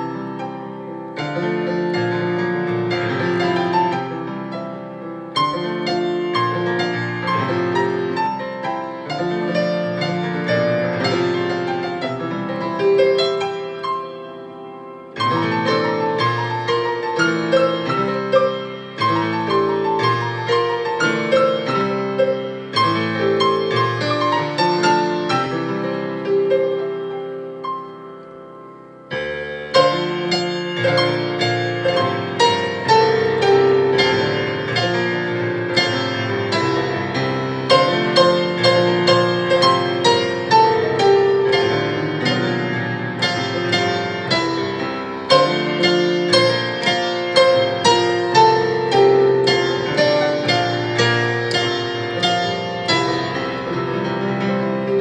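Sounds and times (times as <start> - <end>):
solo piano: 0.0 - 55.0.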